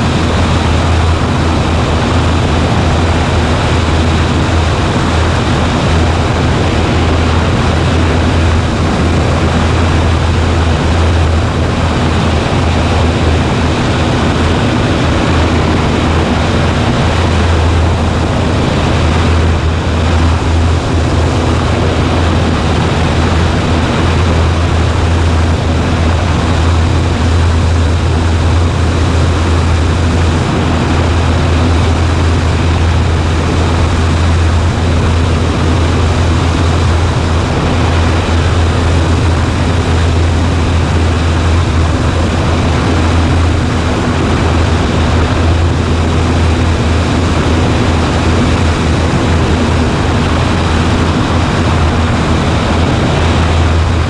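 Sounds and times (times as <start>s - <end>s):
light plane engine drone: 0.0s - 54.0s.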